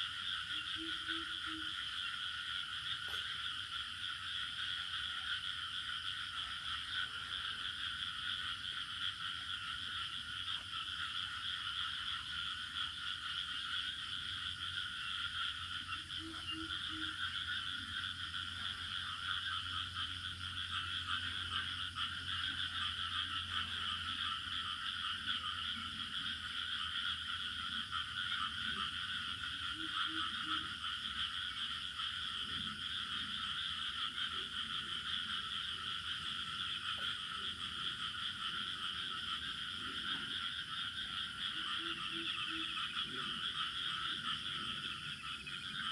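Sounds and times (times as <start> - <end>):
frogs and crickets trilling: 0.0 - 45.9.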